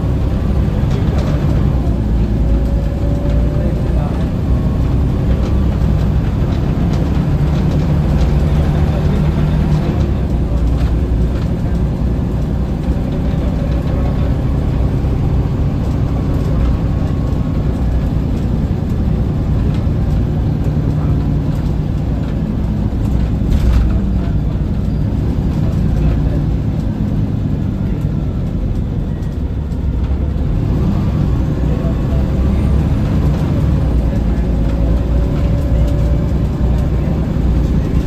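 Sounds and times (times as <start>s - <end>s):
bus diesel engine drone: 0.0s - 38.0s
road noise: 0.0s - 38.0s.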